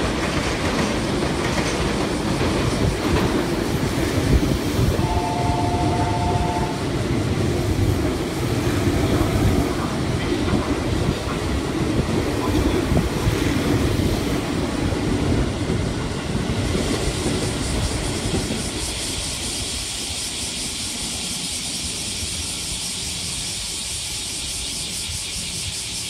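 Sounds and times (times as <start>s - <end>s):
train wheels rumbling: 0.0s - 26.0s
electric train hiss: 1.0s - 26.0s.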